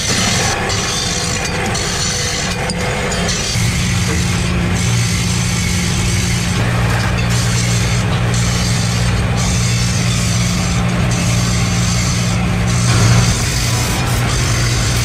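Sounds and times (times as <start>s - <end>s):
constant noisy din: 0.0s - 15.0s
workshop machinery humming: 0.0s - 15.0s.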